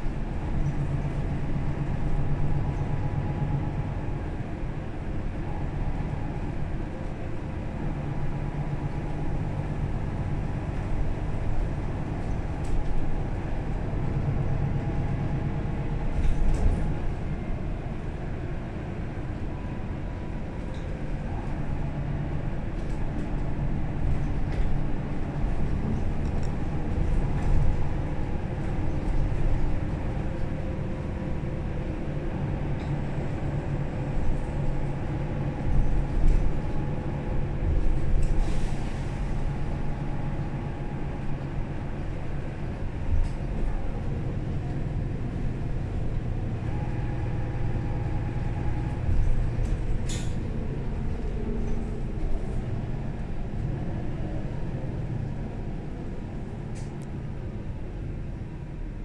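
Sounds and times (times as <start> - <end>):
bus diesel engine rumbling: 0.0 - 59.0.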